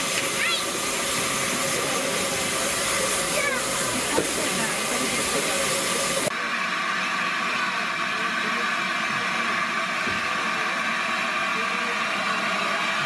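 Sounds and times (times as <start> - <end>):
loud steam hiss: 0.0 - 13.0
steam locomotive hissing: 0.0 - 13.0.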